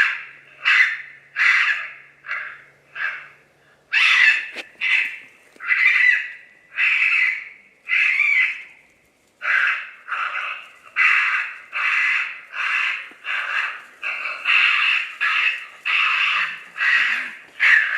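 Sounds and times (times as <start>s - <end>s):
harsh raspy raccoon squaller call: 0.0s - 8.8s, 9.4s - 17.9s.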